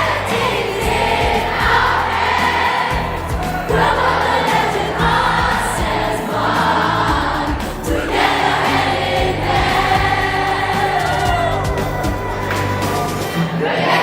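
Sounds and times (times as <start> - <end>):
group of people singing: 0.0 - 14.0
musical accompaniment with bass: 0.0 - 14.0.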